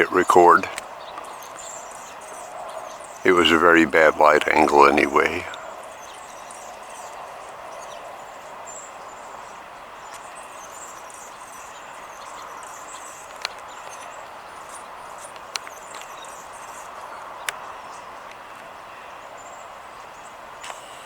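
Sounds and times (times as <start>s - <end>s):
small birds chirping: 0.0s - 18.2s.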